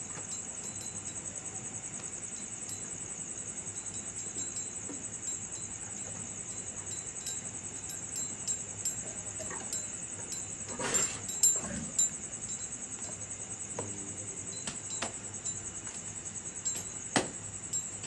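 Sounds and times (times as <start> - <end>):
insect chirring: 0.0 - 18.0.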